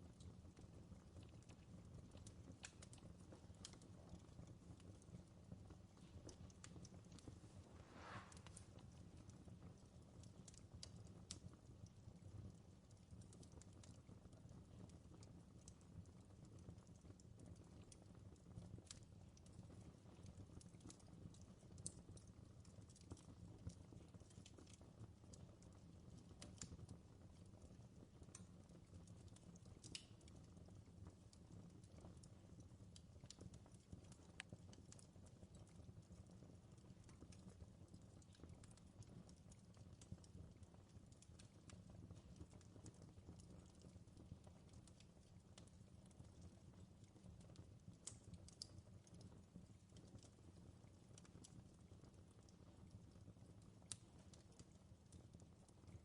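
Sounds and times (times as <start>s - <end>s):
fire crackling and popping: 0.0s - 56.0s
low rumble of fire: 0.0s - 56.0s.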